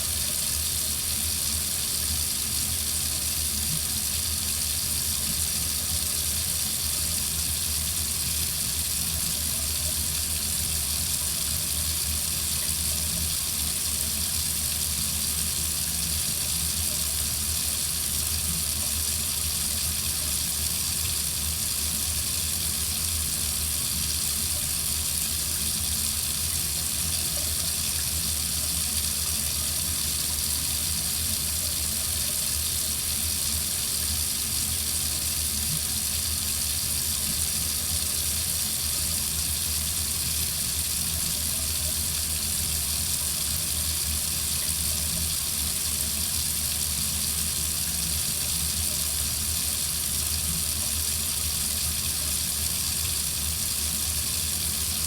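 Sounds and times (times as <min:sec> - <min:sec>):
faucet running into sink: 0:00.0 - 0:55.0.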